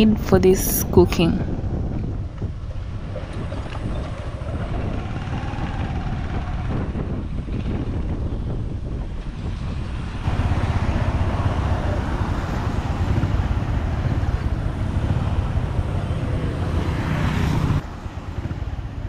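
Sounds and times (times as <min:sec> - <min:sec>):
wind on microphone: 0:00.0 - 0:19.0
vehicle rumbling along road: 0:00.8 - 0:19.0.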